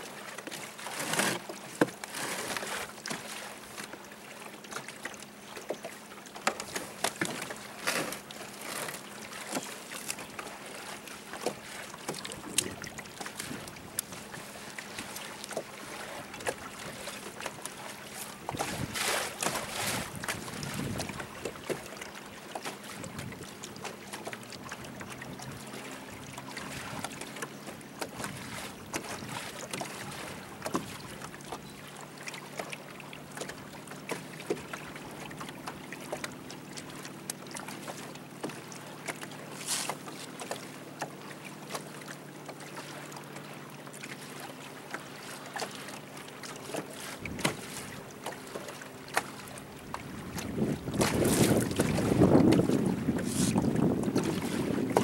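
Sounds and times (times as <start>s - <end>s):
boat motor hum: 0.0s - 55.0s
water lapping against hull: 0.0s - 55.0s.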